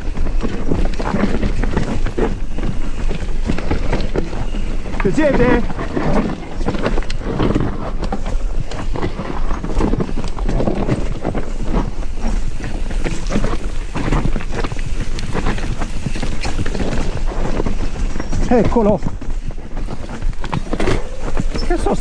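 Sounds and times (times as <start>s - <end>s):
bike knocking and rattling: 0.0s - 22.0s
tyres rumbling on trail: 0.0s - 22.0s
wind buffeting microphone: 0.0s - 22.0s.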